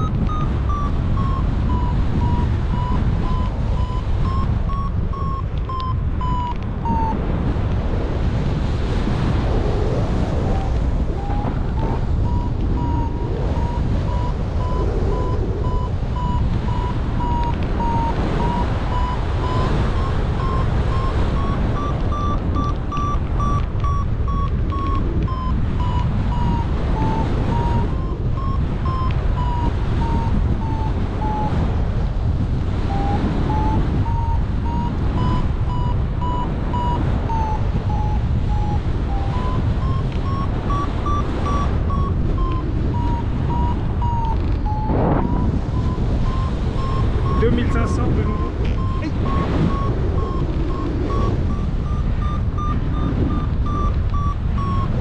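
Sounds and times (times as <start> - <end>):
variometer beeping: 0.0 - 7.7, 9.9 - 55.0
airflow rushing over microphone: 0.0 - 55.0.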